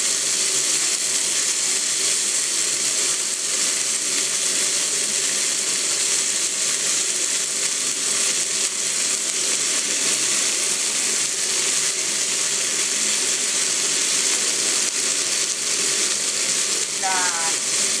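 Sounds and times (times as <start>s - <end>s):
meat sizzling on a griddle: 0.0s - 18.0s.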